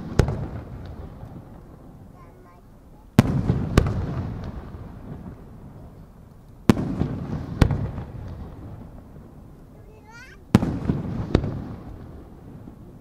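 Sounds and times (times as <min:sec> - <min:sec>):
firework shells booming: 0:00.0 - 0:13.0.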